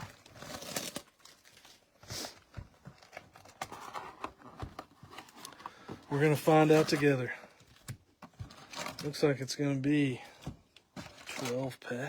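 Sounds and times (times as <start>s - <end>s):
plastic wrap crinkling and tearing: 0.0s - 4.4s, 5.0s - 9.2s, 10.9s - 12.0s.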